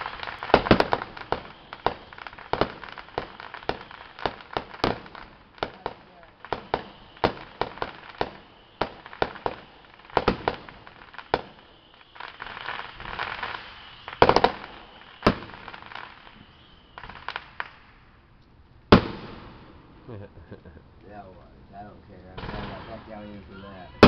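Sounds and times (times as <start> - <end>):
fireworks bangs and pops: 0.0 - 21.3, 22.3 - 24.0
fireworks crackling: 0.0 - 24.0.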